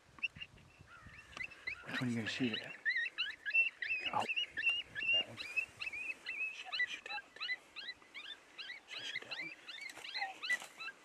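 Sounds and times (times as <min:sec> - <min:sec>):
coyotes yipping and howling: 0:00.9 - 0:11.0.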